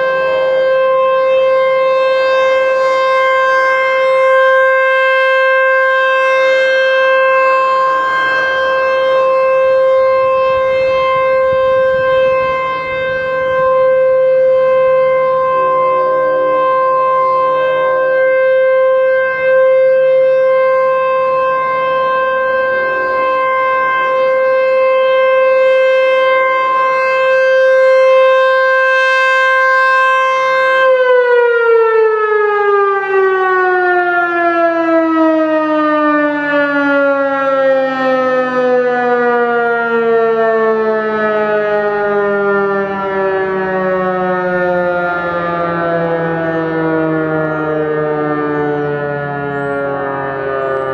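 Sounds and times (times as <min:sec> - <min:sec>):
rotating warning siren: 0:00.0 - 0:50.9.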